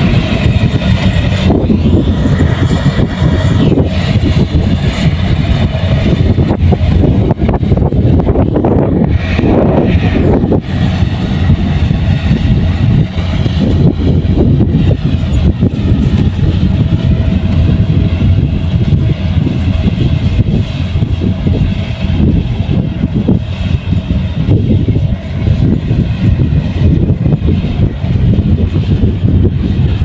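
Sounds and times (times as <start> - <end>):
combine harvester running: 0.0 - 30.0.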